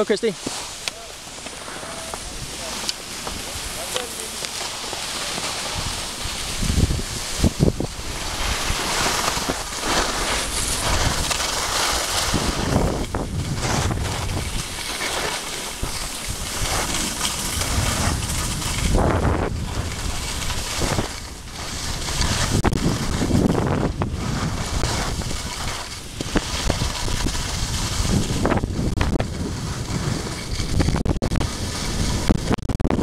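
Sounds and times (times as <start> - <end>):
skis scraping over snow: 0.0 - 33.0
wind buffeting microphone: 1.1 - 4.2, 5.6 - 33.0.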